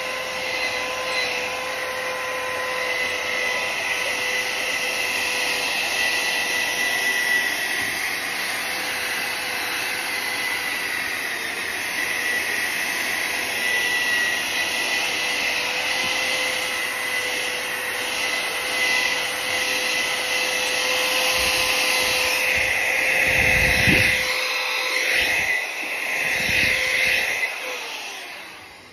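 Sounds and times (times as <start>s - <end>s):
electric drill motor whine: 0.0s - 28.9s.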